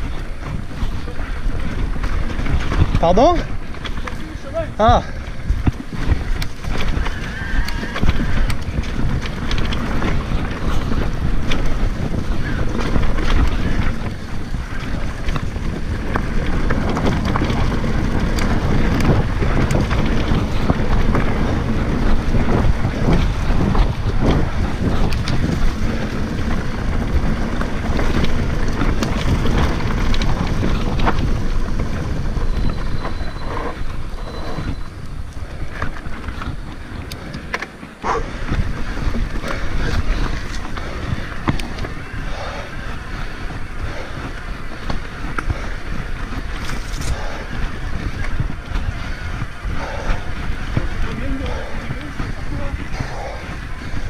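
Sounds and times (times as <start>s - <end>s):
bike rattling: 0.0s - 54.0s
tyres rumbling on dirt: 0.0s - 54.0s
wind rushing over microphone: 0.0s - 54.0s.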